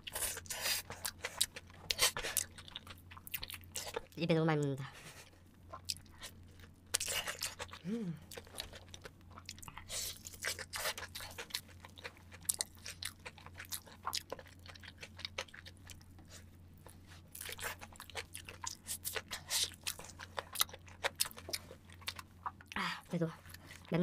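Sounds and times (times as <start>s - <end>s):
crunching and chewing: 0.0s - 4.2s, 5.2s - 22.8s
steady low hum: 0.0s - 24.0s.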